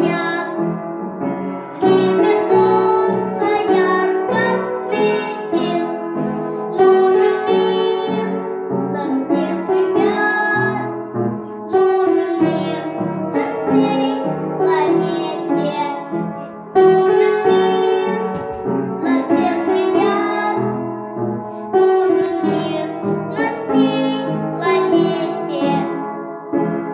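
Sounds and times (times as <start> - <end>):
girl singing: 0.0 - 20.9, 21.7 - 26.1
piano accompaniment: 0.0 - 26.9.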